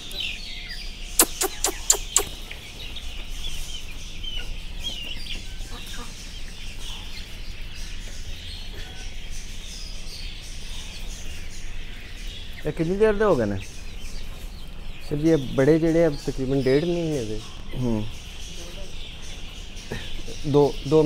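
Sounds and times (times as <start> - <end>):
chicks cheeping and clucking: 0.0 - 21.0.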